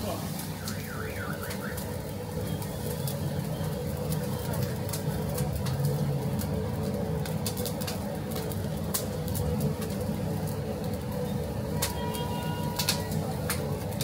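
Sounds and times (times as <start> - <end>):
low hum of machinery: 0.0 - 14.0.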